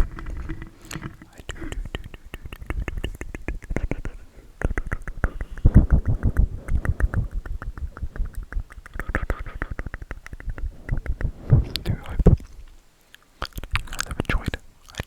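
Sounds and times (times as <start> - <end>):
crackly clicks: 0.0 - 15.0.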